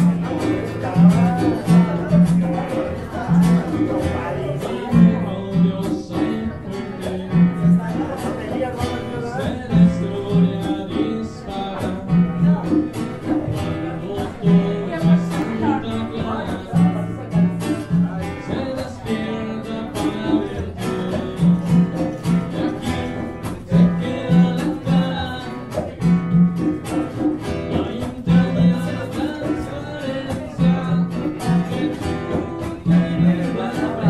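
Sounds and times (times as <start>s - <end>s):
acoustic guitars strumming: 0.0s - 34.0s
person singing: 0.0s - 34.0s.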